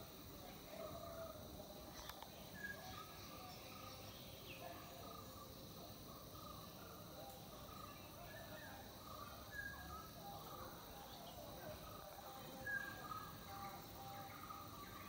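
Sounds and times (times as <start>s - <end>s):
faint birds chirping: 0.0s - 15.0s
steady background hiss: 0.0s - 15.0s.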